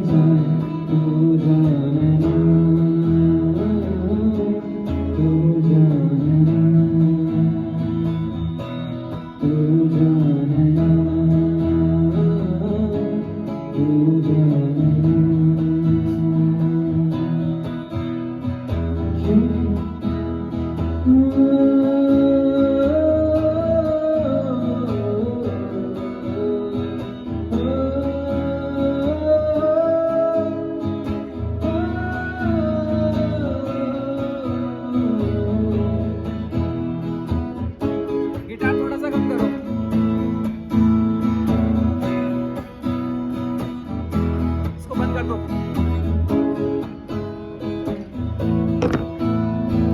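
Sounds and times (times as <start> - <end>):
amplified guitar strumming: 0.0 - 49.9.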